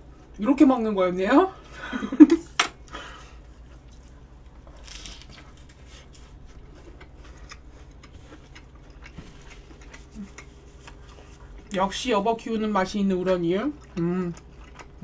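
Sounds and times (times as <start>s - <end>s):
low steady hum: 0.0s - 15.0s
soft chewing: 2.8s - 15.0s.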